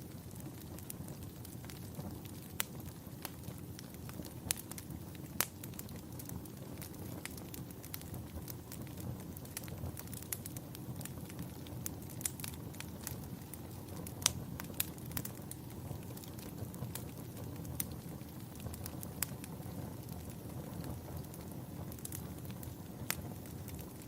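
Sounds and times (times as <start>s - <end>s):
burning wood crackling and popping: 0.0s - 24.0s
campfire low rumble: 0.0s - 24.0s.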